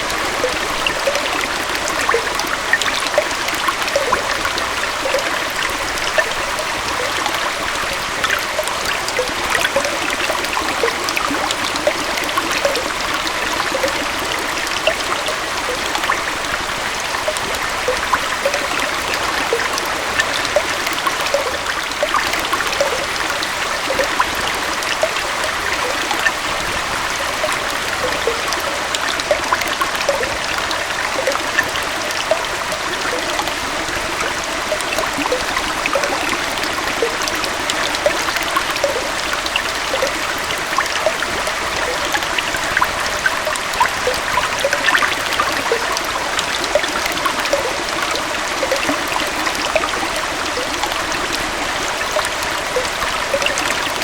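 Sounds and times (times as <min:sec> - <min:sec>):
waterfall and stream flowing: 0:00.0 - 0:54.0.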